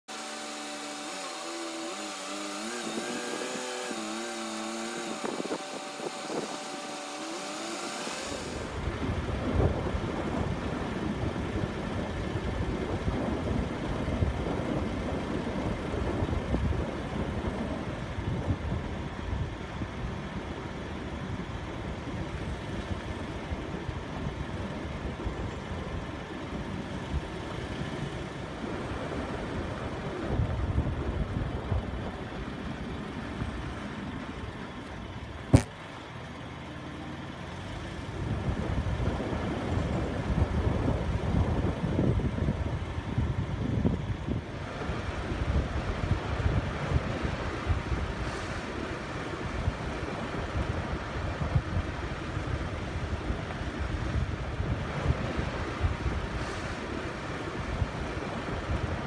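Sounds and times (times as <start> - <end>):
car road and wind noise: 0.1 - 59.0.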